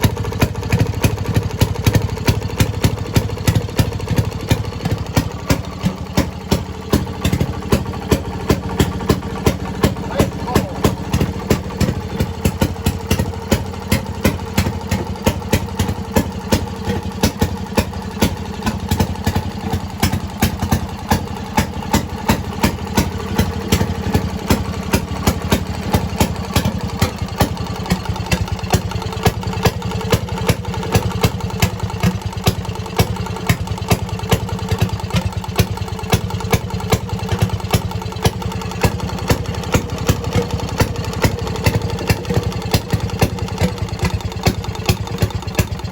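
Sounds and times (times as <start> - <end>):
two-stroke engine idling: 0.0 - 45.9.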